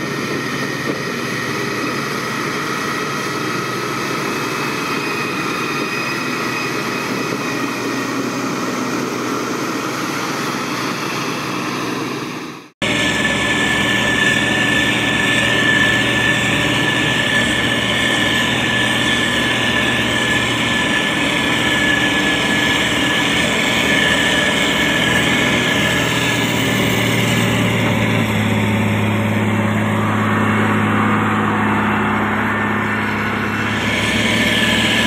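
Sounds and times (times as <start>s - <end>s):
diesel engine running: 0.0s - 35.0s
thin high whine: 0.0s - 35.0s.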